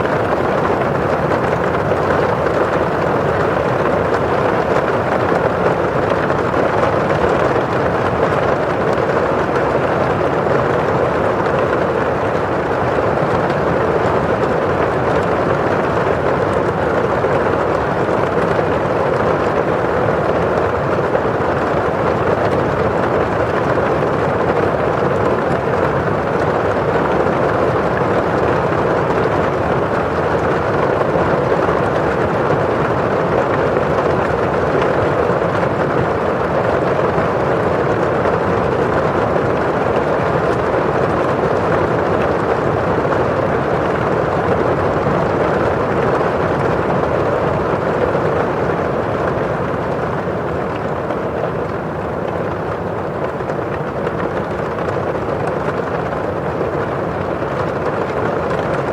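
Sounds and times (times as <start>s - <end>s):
rain on a windowpane: 0.0s - 58.9s.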